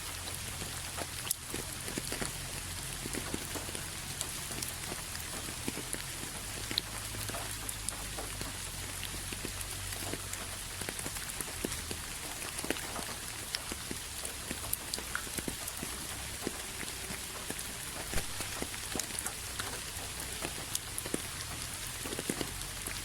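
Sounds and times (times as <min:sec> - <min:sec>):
rain falling: 0:00.0 - 0:23.0
raindrops ticking: 0:00.0 - 0:23.0.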